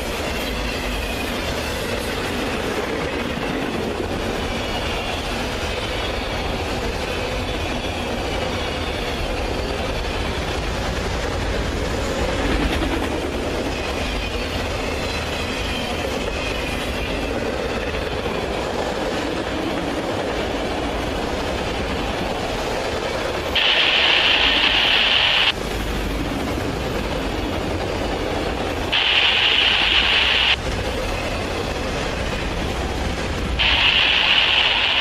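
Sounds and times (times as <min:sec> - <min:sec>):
train cars rumbling on rails: 0:00.0 - 0:35.0.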